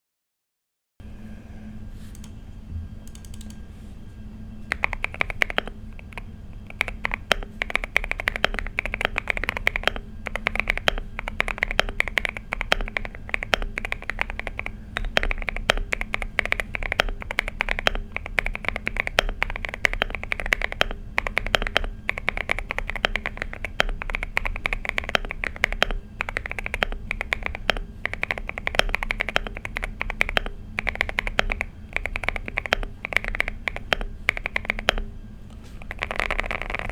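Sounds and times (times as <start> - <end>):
low steady hum: 1.0 - 36.9
mechanical keyboard typing: 3.0 - 3.6, 4.7 - 36.9.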